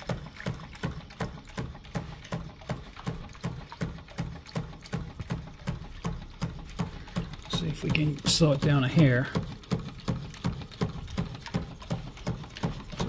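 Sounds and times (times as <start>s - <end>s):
engine knocking rhythmically: 0.0s - 13.0s.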